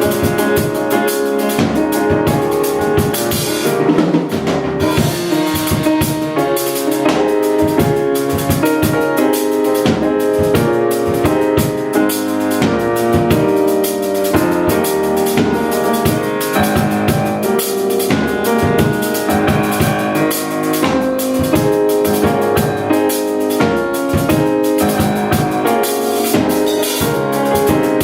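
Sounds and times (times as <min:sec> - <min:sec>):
drum kit beat: 0:00.0 - 0:28.0.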